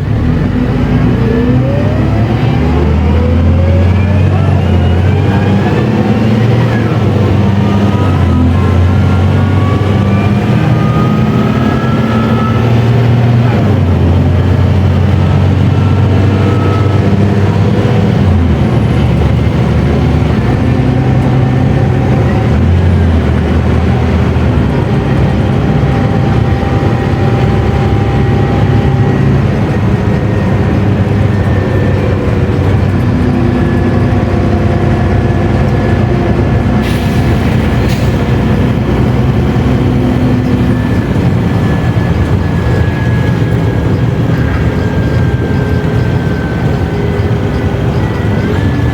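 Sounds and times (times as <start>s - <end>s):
bus diesel engine under load: 0.0s - 48.9s.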